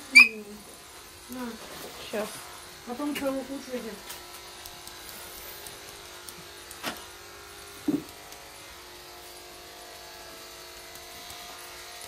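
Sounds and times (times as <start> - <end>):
small electric motor humming: 0.0 - 12.0.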